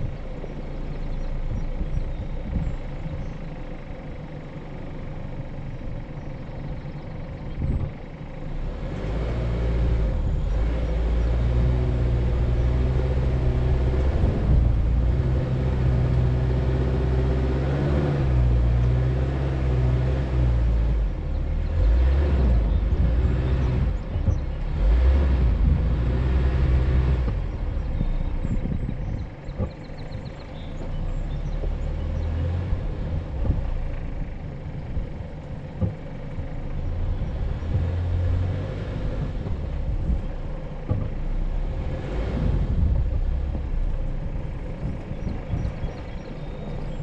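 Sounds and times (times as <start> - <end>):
vehicle engine driving in sand: 0.0 - 47.0.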